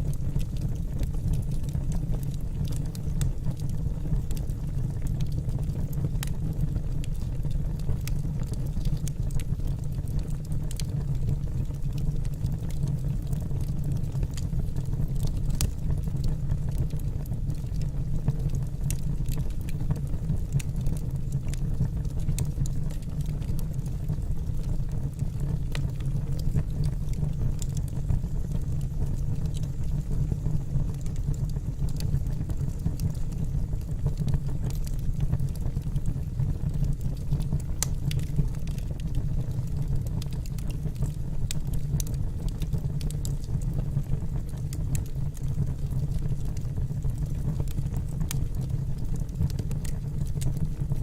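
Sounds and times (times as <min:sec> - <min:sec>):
low fire rumble: 0:00.0 - 0:51.0
wood fire crackling and popping: 0:00.0 - 0:51.0.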